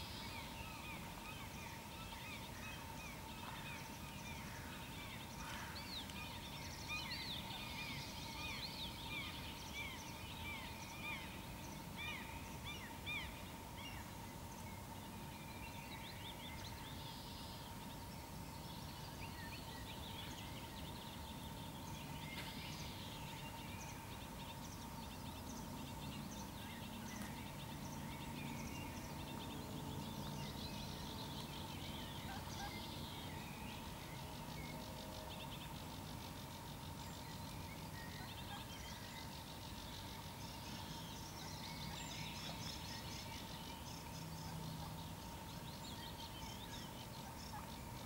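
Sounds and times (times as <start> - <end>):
small birds singing and chirping: 0.0 - 48.0.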